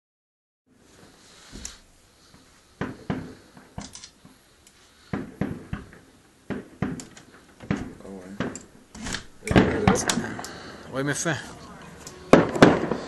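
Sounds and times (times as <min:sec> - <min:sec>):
fireworks bursting: 0:00.8 - 0:13.0.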